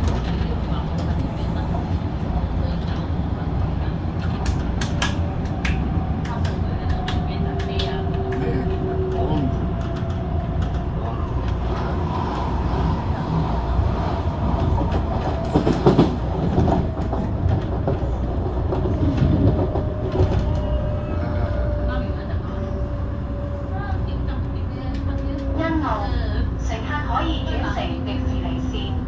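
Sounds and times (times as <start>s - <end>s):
train clatters: 0.0s - 29.0s
train wheels rumbling on track: 0.0s - 29.0s.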